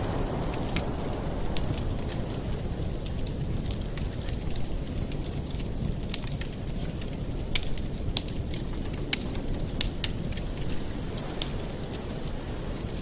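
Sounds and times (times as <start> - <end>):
burning wood crackling and popping: 0.0 - 13.0
low rumble of flames: 0.0 - 13.0.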